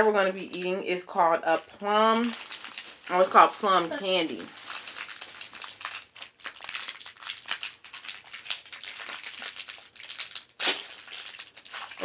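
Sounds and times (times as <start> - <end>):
candy wrapper crinkling: 1.5 - 12.0.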